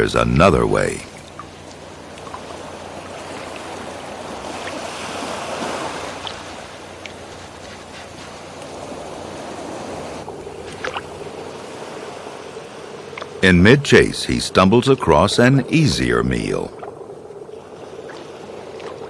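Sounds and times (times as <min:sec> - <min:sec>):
underwater water noise: 0:00.0 - 0:19.0.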